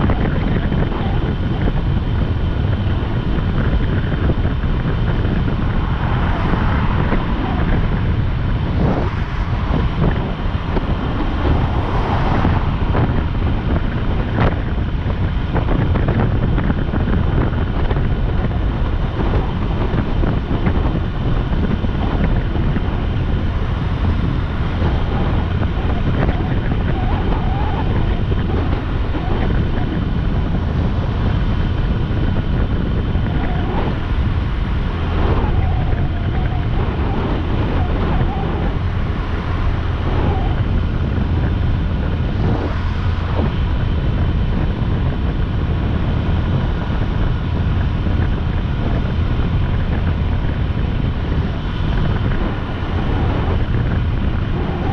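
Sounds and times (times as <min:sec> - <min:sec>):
motorcycle engine running: 0:00.0 - 0:54.9
road noise: 0:00.0 - 0:54.9
wind rushing over microphone: 0:00.0 - 0:54.9.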